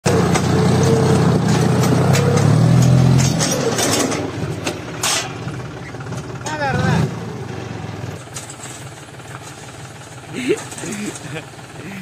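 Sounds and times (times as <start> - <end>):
diesel tractor engine clattering: 0.0 - 12.0.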